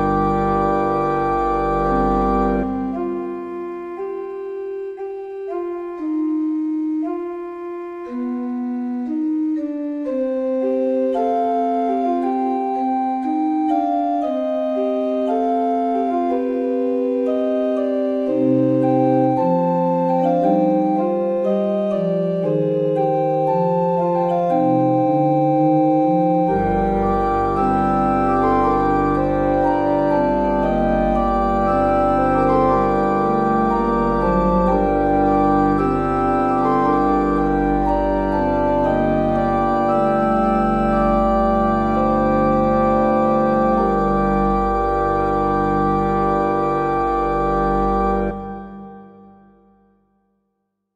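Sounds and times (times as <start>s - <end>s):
slow keyboard melody: 0.0s - 50.3s.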